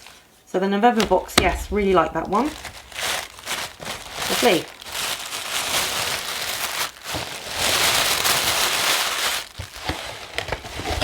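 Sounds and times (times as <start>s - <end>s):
paper and packaging crinkling: 0.0s - 0.3s, 1.0s - 11.0s.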